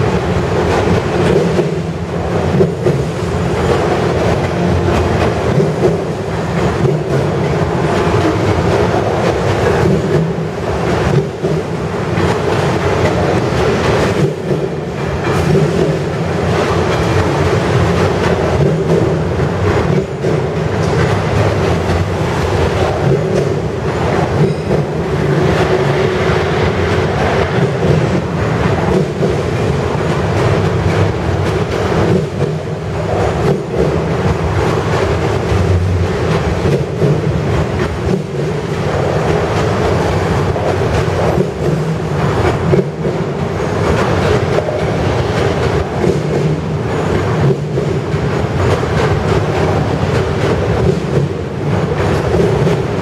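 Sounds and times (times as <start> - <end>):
steel wheels rumbling on rails: 0.0 - 53.0
wheels clicking over rail joints: 0.0 - 53.0.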